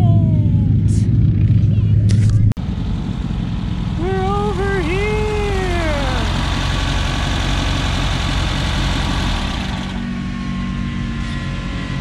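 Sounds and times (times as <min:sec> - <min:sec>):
dune buggy engine idling: 0:00.0 - 0:10.3.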